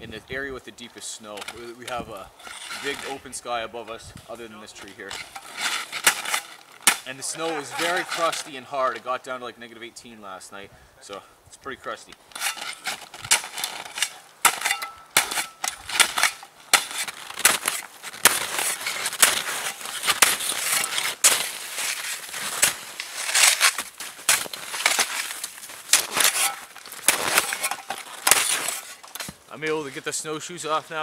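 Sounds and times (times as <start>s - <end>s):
shovel crunching frozen snow: 1.2s - 3.5s, 4.4s - 9.0s, 12.2s - 31.0s.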